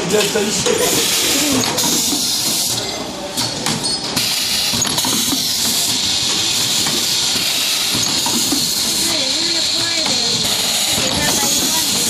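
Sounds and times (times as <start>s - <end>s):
machine hissing: 0.0s - 3.0s, 4.2s - 12.0s.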